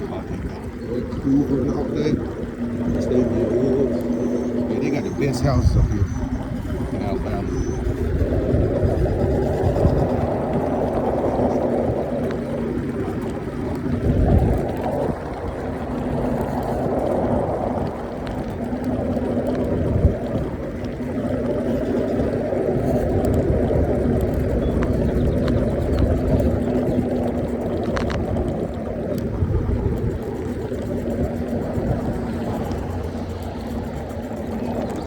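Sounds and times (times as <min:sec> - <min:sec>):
electric scooter hum: 0:00.0 - 0:35.0
wind buffeting microphone: 0:00.0 - 0:35.0.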